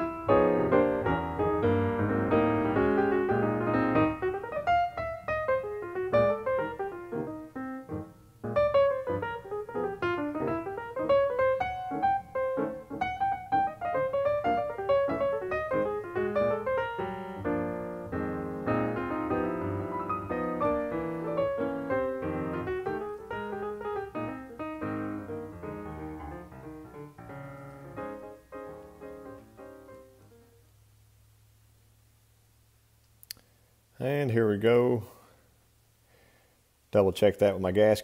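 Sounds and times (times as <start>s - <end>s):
piano music: 0.0s - 30.6s.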